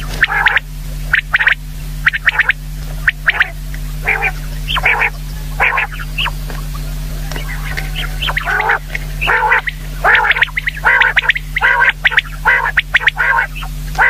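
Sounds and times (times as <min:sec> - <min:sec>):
low electrical hum: 0:00.0 - 0:14.0
quail calling: 0:00.0 - 0:14.0.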